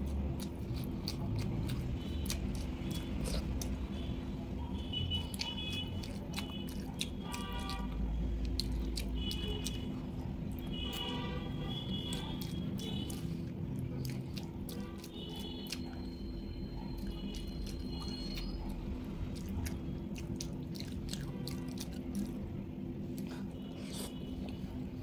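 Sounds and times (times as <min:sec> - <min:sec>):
chewing and wet mouth clicks: 0:00.0 - 0:04.2, 0:04.8 - 0:24.7
steady low hum: 0:00.0 - 0:25.0.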